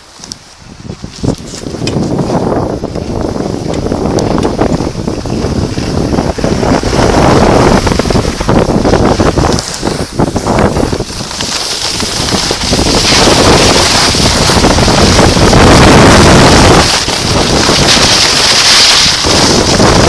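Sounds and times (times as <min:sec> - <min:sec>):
high hiss: 0:00.0 - 0:20.0
wind buffeting microphone: 0:00.0 - 0:20.0.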